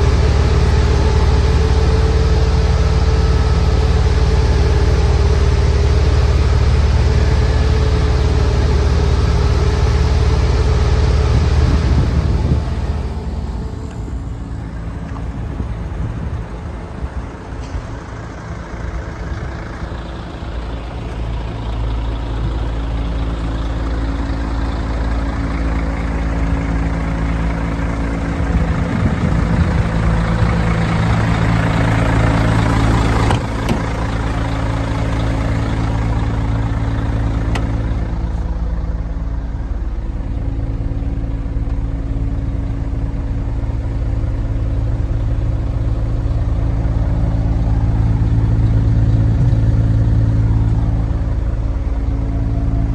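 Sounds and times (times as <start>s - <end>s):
diesel engine idling: 0.0s - 52.9s.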